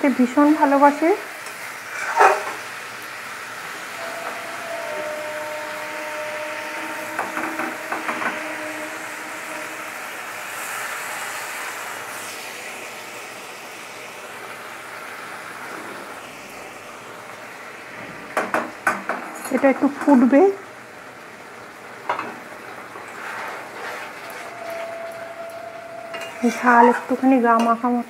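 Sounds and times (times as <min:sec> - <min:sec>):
curry sizzling in a pan: 0:00.0 - 0:28.0.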